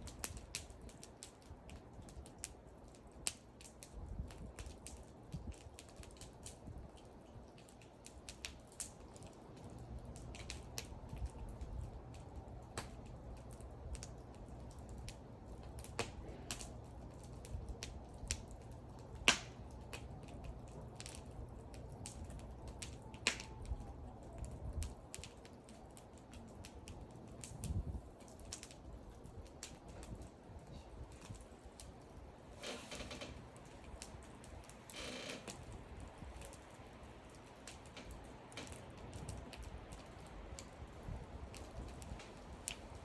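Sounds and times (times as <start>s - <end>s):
burning wood crackling: 0.0s - 43.0s
low rumble of flames: 0.0s - 43.0s.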